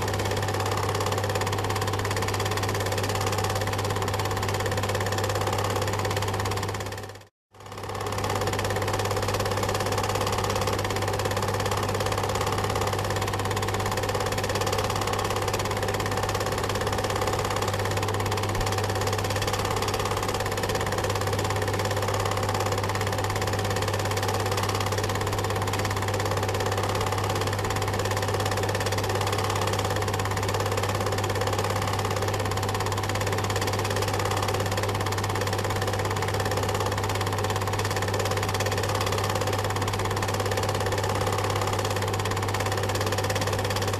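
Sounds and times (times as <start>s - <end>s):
film projector whirring: 0.0s - 43.9s.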